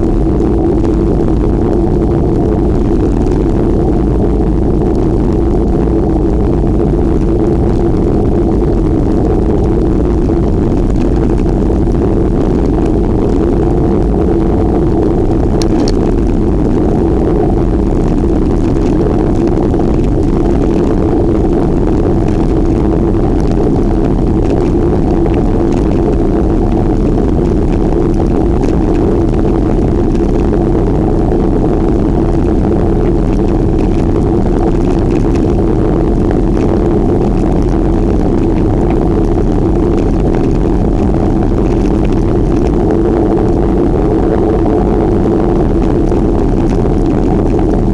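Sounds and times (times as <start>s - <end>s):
constant hum: 0.0s - 47.9s
wind and road noise: 0.0s - 47.9s.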